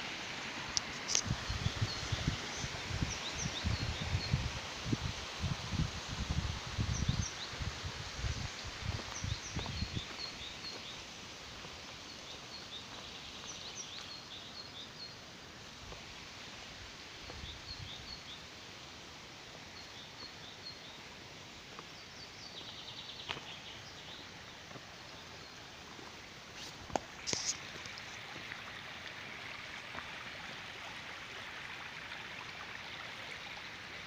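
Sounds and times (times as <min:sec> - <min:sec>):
songbirds chirping: 0:00.0 - 0:04.8, 0:06.6 - 0:34.0
running water: 0:00.0 - 0:34.0.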